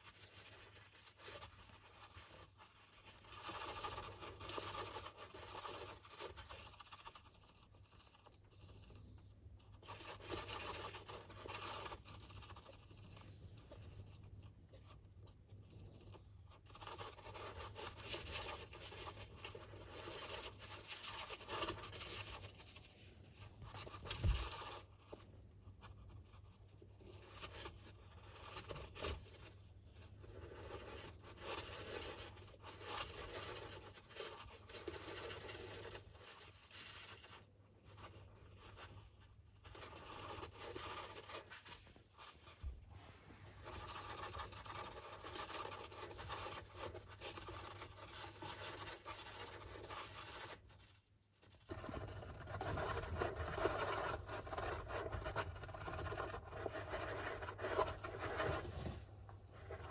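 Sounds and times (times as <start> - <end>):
hamster scratching in sand: 0.0 - 59.9.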